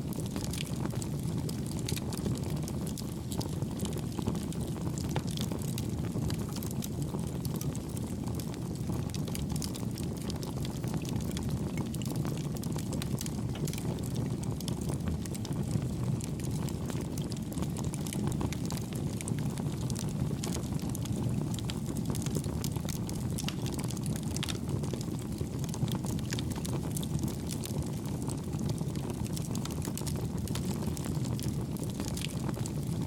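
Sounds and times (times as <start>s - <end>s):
campfire crackles and pops: 0.0s - 33.0s.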